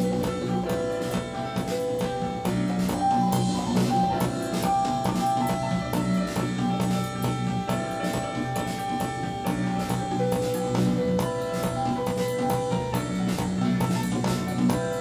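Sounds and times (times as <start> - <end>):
drum kit beat: 0.0 - 15.0
guitar: 0.0 - 15.0
keyboards holding notes: 0.0 - 15.0.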